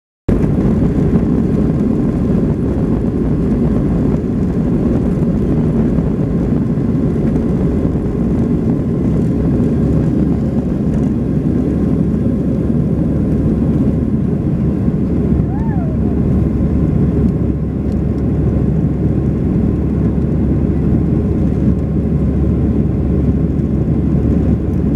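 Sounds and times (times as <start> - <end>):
jet engines roaring: 0.3 - 24.9.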